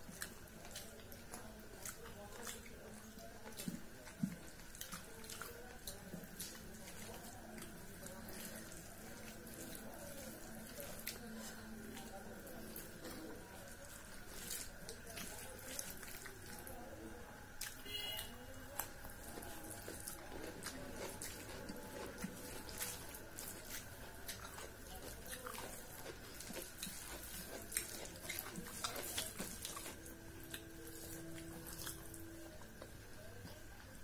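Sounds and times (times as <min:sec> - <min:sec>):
hand squishing food on a plate: 0:00.0 - 0:33.0
chewing: 0:00.0 - 0:34.0.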